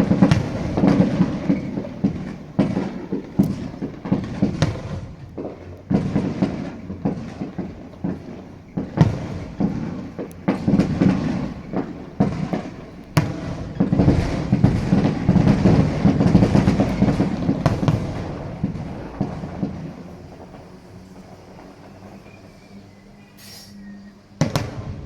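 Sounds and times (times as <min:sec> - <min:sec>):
distant fireworks booming: 0:00.0 - 0:25.0
fireworks crackle: 0:00.0 - 0:25.0.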